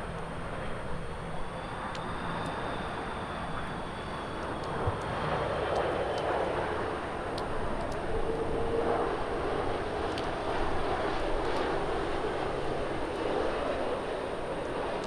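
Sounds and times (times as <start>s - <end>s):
jet airliner engines: 0.0s - 15.0s.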